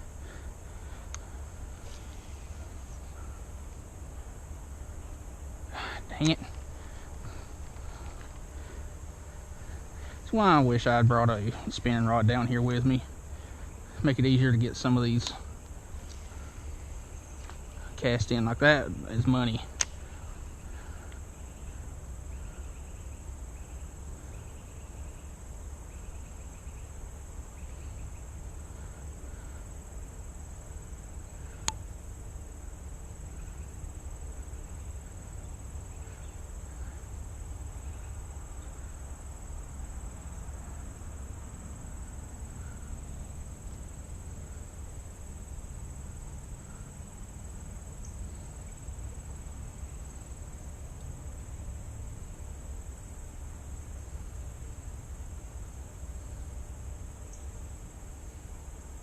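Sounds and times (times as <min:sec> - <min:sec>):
insects calling: 0:00.0 - 0:59.0.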